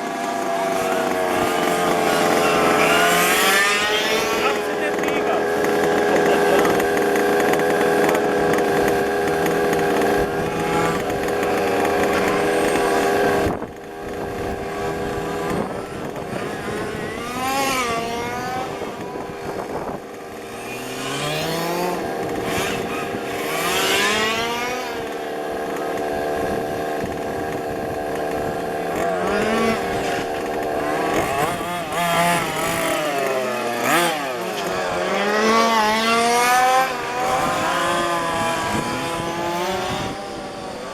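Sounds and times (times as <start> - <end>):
rc car engines revving: 0.0 - 40.9.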